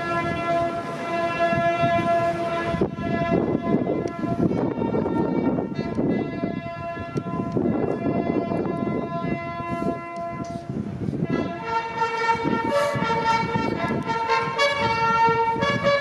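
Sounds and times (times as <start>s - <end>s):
wind instruments holding notes: 0.0s - 16.0s.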